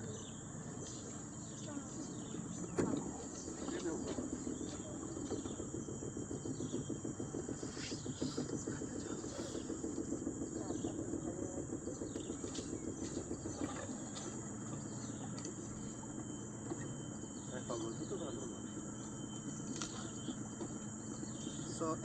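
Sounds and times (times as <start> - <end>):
high-pitched insect drone: 0.0 - 22.0
low fluttering rumble: 0.0 - 22.0.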